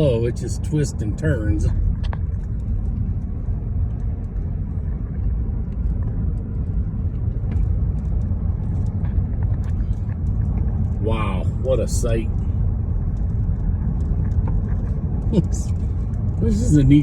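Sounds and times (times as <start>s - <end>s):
car road rumble from inside: 0.0s - 17.0s.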